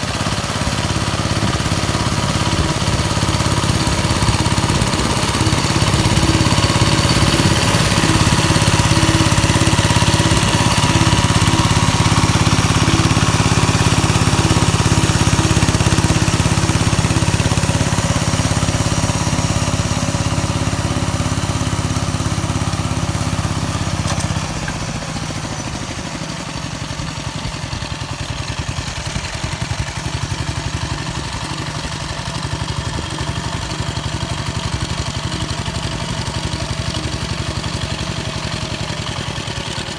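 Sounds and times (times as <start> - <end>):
small tractor engine tilling: 0.0 - 39.9.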